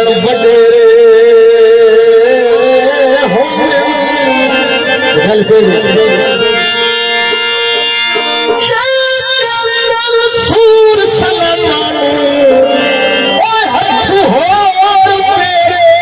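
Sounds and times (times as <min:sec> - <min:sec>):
man singing: 0:00.0 - 0:06.9, 0:08.6 - 0:16.0
harmonium chords: 0:00.0 - 0:16.0.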